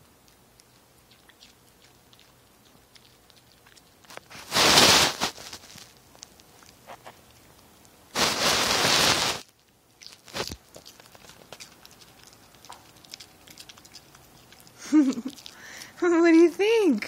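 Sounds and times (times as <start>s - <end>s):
dog chewing crunchily: 0.0s - 16.0s.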